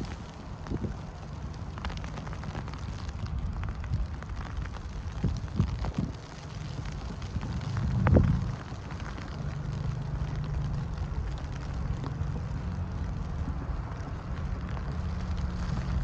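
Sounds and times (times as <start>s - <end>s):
vehicle engine humming: 0.0s - 16.0s
wind rumbling on microphone: 0.0s - 16.0s.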